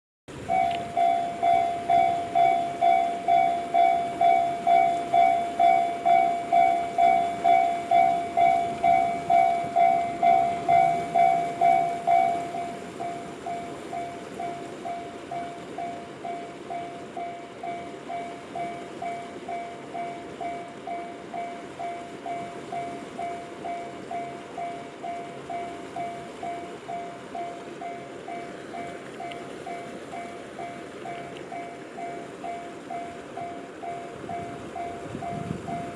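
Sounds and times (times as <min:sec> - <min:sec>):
level-crossing warning bell: 0:00.3 - 0:35.9.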